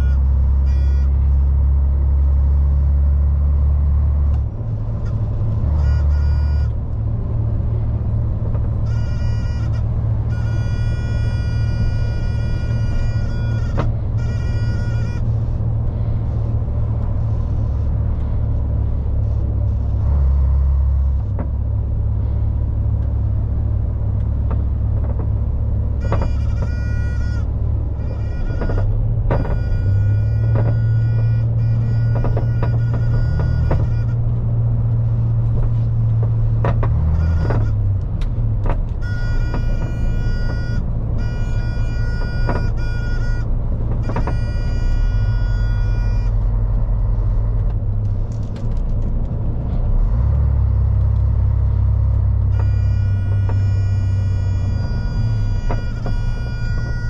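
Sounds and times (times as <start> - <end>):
lorry engine and road rumble: 0.0 - 57.0.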